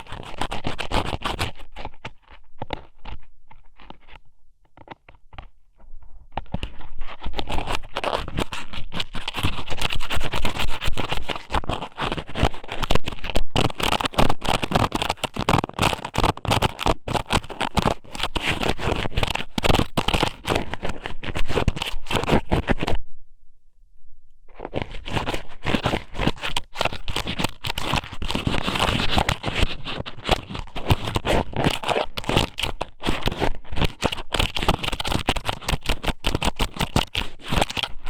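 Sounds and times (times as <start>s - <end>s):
rubbing on a microphone: 0.0s - 23.0s, 24.5s - 38.0s.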